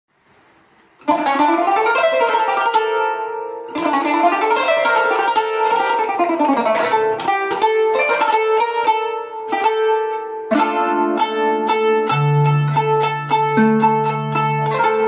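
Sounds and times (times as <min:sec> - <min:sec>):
plucked zither melody: 0:01.0 - 0:15.0.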